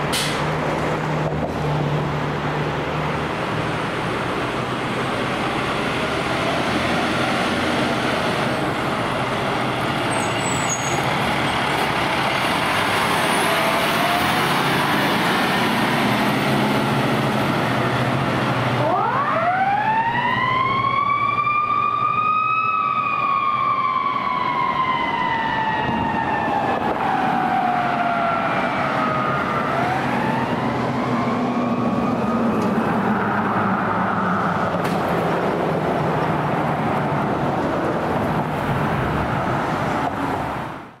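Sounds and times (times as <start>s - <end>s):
engine and road noise: 0.0s - 41.0s
fire truck siren wailing: 2.0s - 39.9s.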